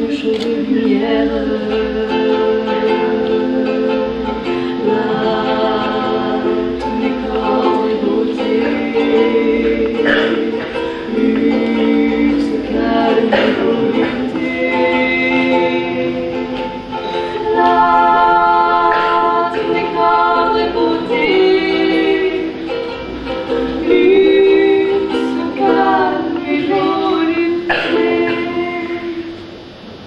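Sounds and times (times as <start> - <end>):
women singing in harmony: 0.0 - 29.4
strummed ukulele: 0.0 - 30.0.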